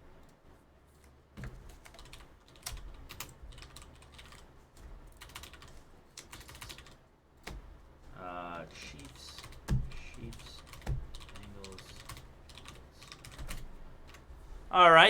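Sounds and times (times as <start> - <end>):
computer keyboard typing: 1.4 - 7.8, 8.6 - 14.3.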